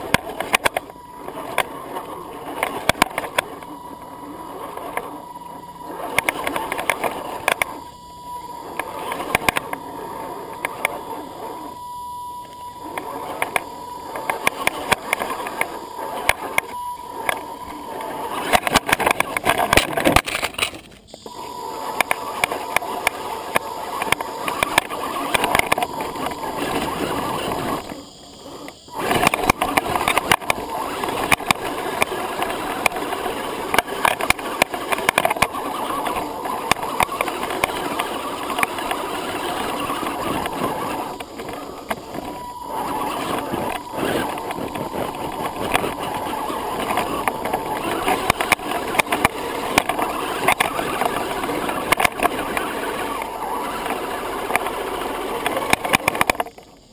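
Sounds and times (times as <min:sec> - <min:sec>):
electric motor and gears whining: 0:00.0 - 0:56.9.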